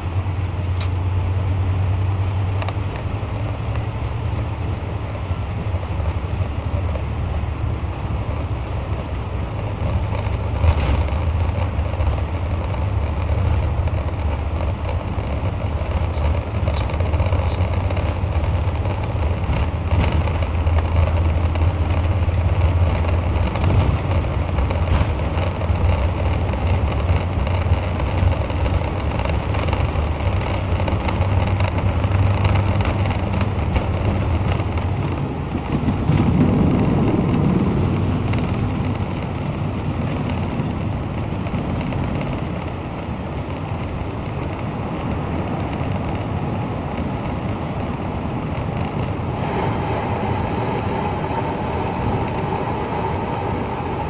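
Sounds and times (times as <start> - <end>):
jet engines rumbling: 0.0 - 54.0
wheels rolling on runway: 0.0 - 54.0.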